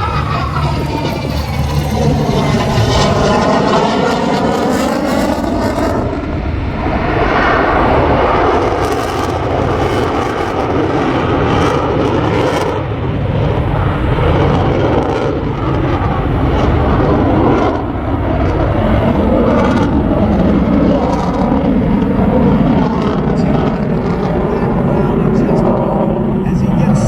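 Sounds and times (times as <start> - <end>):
jet engine roaring overhead: 0.0 - 27.0.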